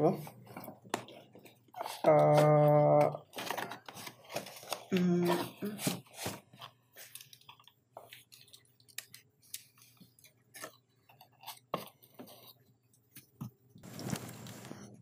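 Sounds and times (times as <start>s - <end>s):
rustling wrapping and cardboard: 0.0s - 15.0s.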